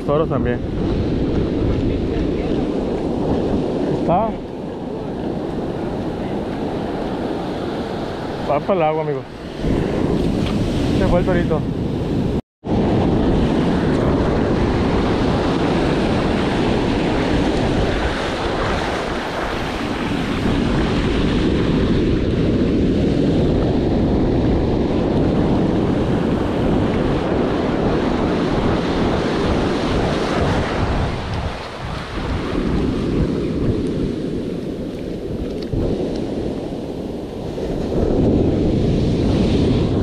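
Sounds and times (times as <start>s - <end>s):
ocean surf breaking on sand: 0.0s - 40.0s
wind buffeting microphone: 0.0s - 40.0s.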